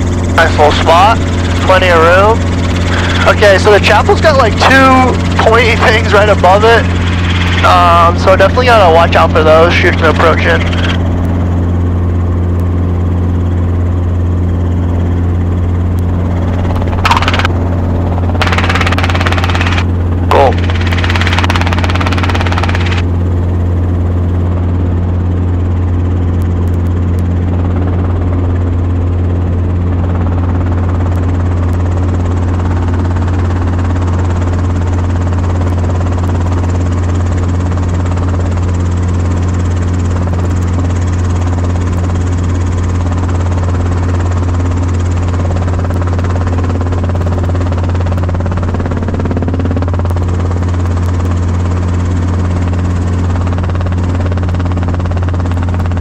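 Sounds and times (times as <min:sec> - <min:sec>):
helicopter rotor and engine droning: 0:00.0 - 0:56.0
low hum: 0:00.0 - 0:56.0.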